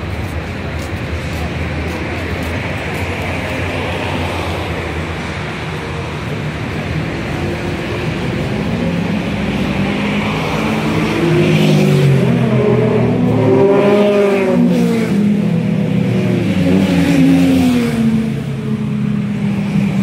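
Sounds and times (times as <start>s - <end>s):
street noise: 0.0s - 20.0s.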